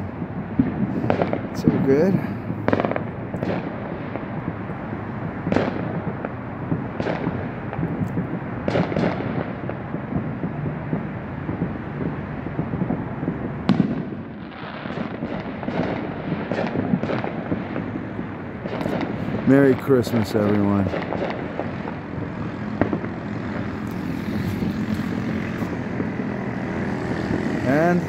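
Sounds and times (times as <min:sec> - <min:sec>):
distant fireworks din: 0:00.0 - 0:28.0
firework bangs: 0:00.0 - 0:28.0.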